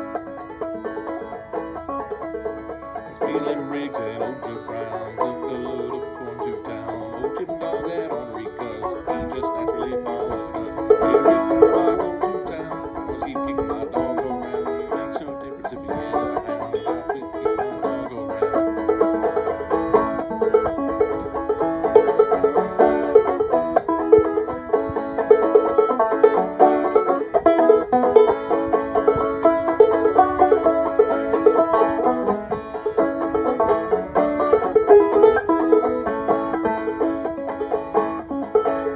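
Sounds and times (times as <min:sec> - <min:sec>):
banjo plucked old-time tune: 0:00.0 - 0:38.9.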